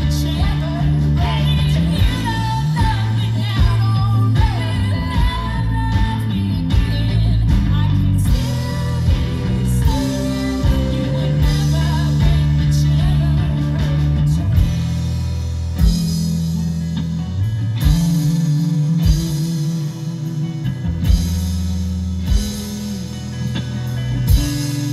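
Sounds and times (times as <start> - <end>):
drum and cymbal hits: 0.0 - 24.9
live rock band playing: 0.0 - 24.9.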